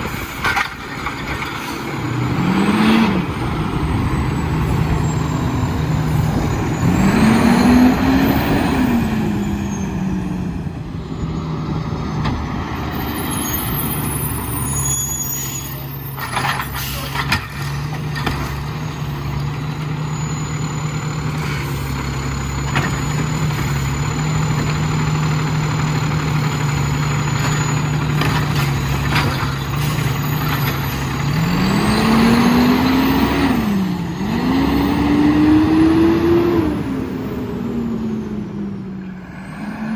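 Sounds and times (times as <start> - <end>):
garbage truck diesel engine: 0.0 - 39.9.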